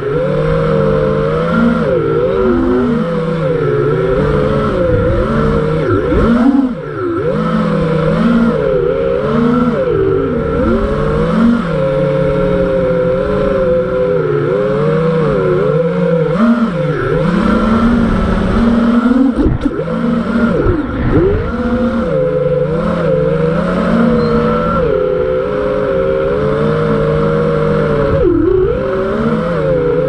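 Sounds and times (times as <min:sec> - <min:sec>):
quadcopter motors whining: 0:00.0 - 0:30.0.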